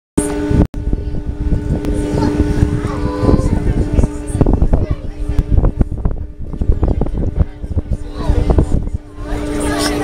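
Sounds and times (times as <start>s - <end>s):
boat engine humming: 0.2s - 10.0s
wind buffeting microphone: 0.2s - 10.0s.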